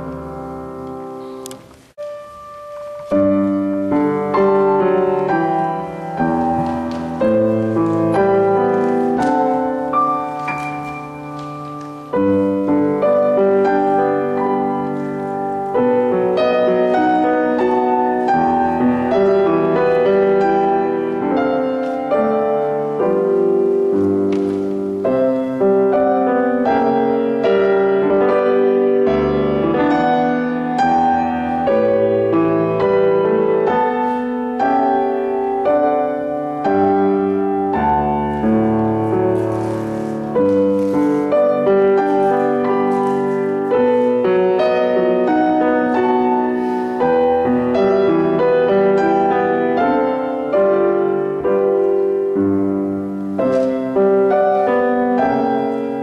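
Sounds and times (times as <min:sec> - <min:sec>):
solo piano chords: 0:00.0 - 0:56.0.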